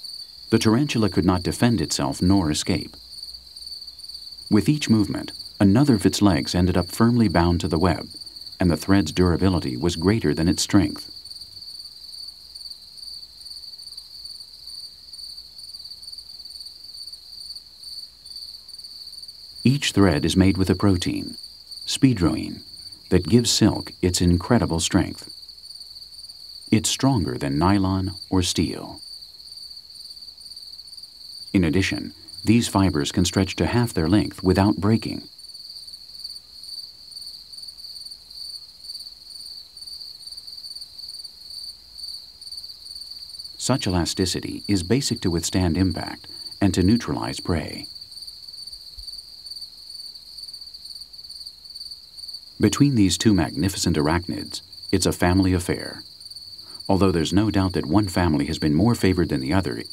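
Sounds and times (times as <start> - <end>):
crickets chirping: 0.0 - 59.9
night insects trilling: 0.0 - 59.9.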